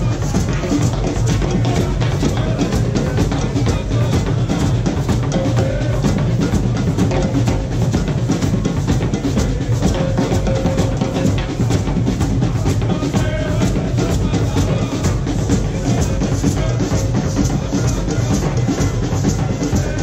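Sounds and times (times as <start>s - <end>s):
drum band playing fast rhythm: 0.0s - 20.0s.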